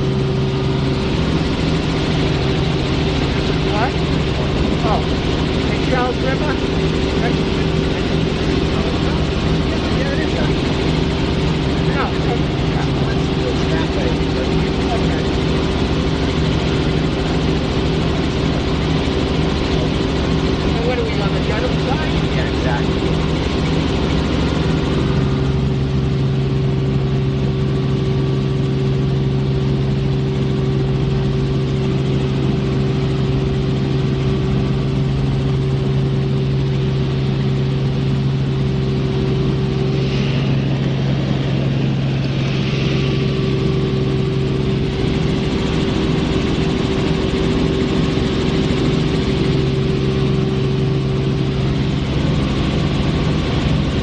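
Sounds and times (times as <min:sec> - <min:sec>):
helicopter engine and rotor droning: 0:00.0 - 0:54.0.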